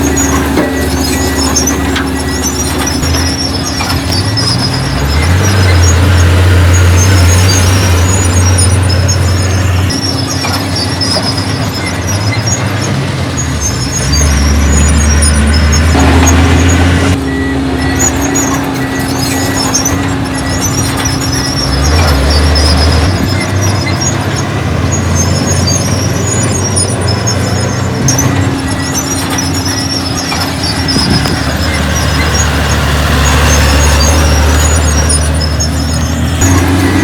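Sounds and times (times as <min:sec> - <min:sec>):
heavy machinery diesel engine droning: 0:00.0 - 0:37.0
high-pitched squeaks: 0:00.0 - 0:37.0.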